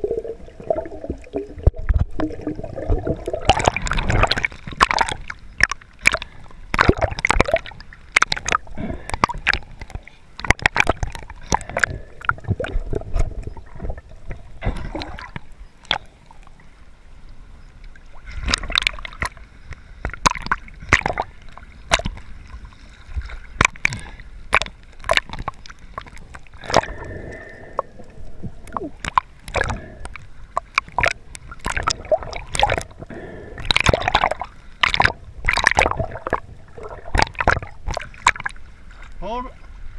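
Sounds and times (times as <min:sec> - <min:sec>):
seawater sloshing and splashing: 0:00.0 - 0:16.1, 0:18.1 - 0:27.0, 0:28.8 - 0:39.9.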